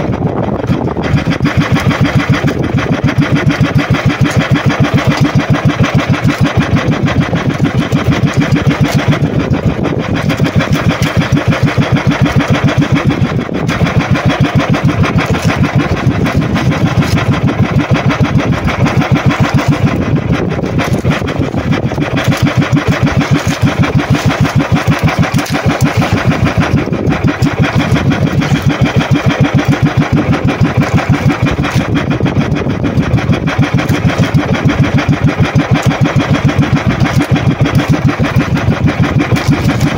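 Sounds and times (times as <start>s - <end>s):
boat engine throbbing: 0.0s - 39.9s.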